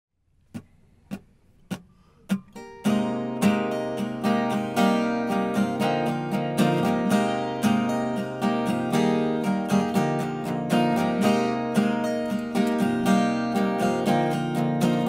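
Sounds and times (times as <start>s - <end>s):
acoustic guitar strumming chords: 0.6s - 15.0s.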